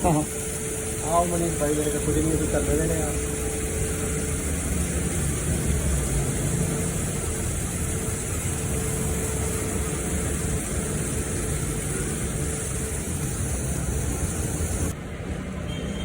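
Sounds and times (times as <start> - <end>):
faint steady hum: 0.0 - 14.9
car engine and road noise: 3.0 - 15.8.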